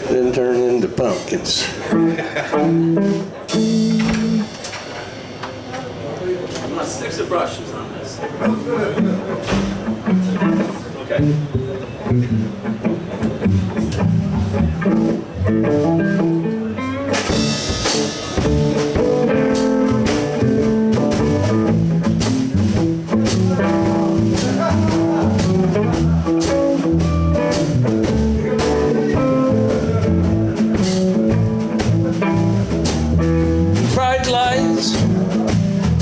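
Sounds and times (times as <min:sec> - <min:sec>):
bass guitar: 0:00.0 - 0:04.6, 0:09.0 - 0:36.0
drum kit played with brushes: 0:00.0 - 0:06.8, 0:08.4 - 0:36.0
electric guitar: 0:01.8 - 0:05.2, 0:08.4 - 0:36.0.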